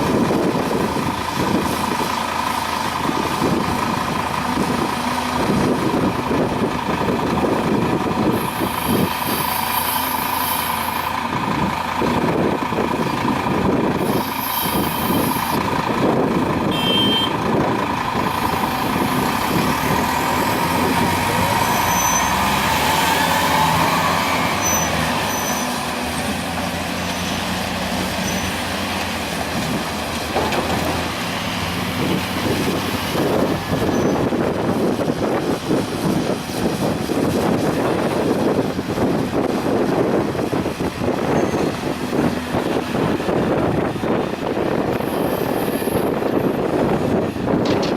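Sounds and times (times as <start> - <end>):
excavator engine droning with whine: 0.0 - 47.9.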